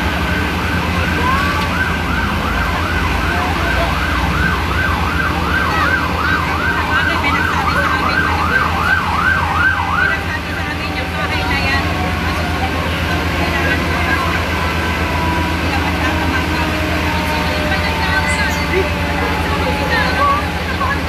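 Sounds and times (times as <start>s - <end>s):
siren yelping: 0.0s - 21.0s.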